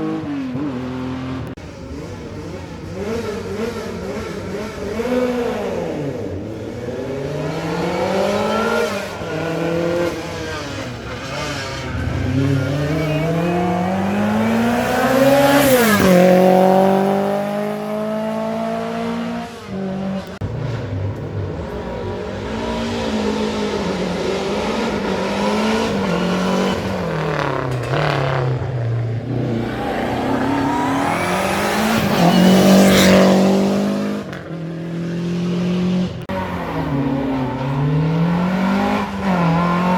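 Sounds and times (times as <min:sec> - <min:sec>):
car passing close: 0:00.0 - 0:39.9
rally car engines revving: 0:00.0 - 0:39.9.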